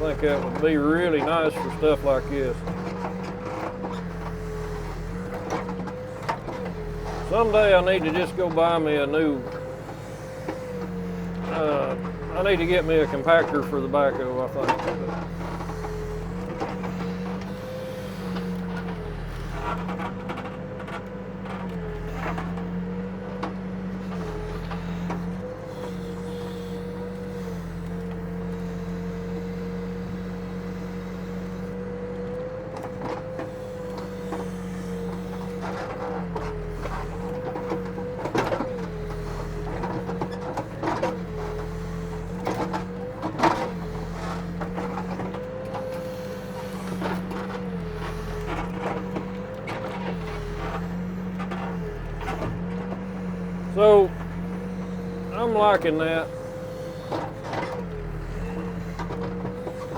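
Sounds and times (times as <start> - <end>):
backhoe engine running: 0.0 - 59.9.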